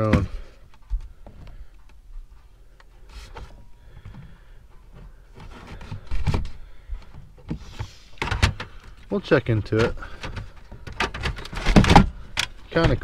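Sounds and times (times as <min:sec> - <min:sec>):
items rubbing and knocking: 0:00.0 - 0:13.0.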